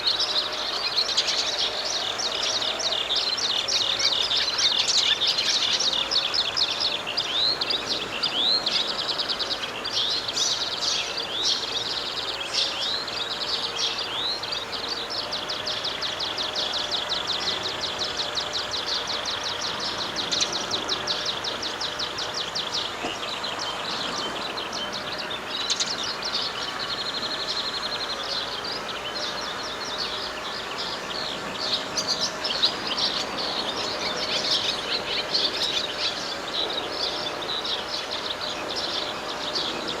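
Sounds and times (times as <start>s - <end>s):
small birds chirping and singing: 0.0s - 40.0s
steady outdoor hiss: 0.0s - 40.0s.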